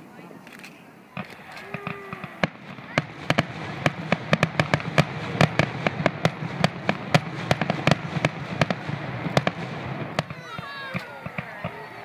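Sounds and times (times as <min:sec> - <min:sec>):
steady background noise: 0:00.0 - 0:12.0
fireworks popping and banging: 0:00.5 - 0:12.0.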